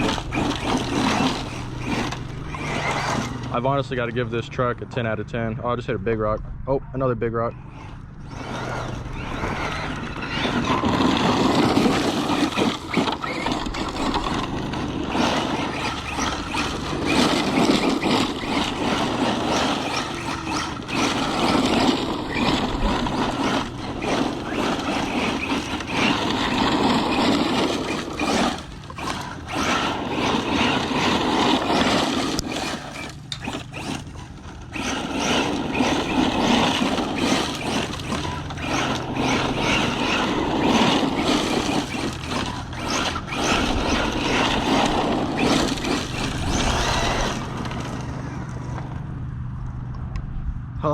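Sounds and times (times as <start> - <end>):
rc truck motor whirring: 0.0 - 5.2, 7.5 - 50.1
tyres on gravel: 0.0 - 50.1.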